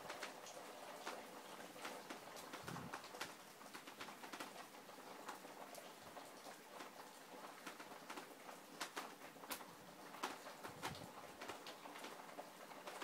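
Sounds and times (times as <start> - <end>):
faint heavy rain patter: 0.0 - 13.0.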